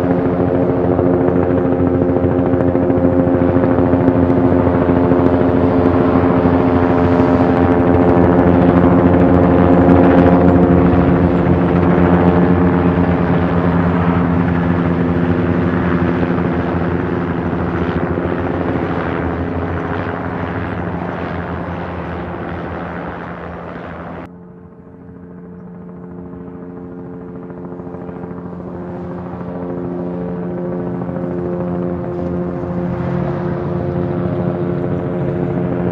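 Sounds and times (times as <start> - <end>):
helicopter rotor chop: 0.0 - 35.9.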